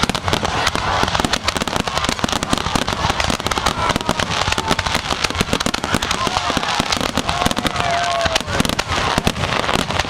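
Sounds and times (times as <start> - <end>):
fireworks crackling and banging: 0.0 - 10.0.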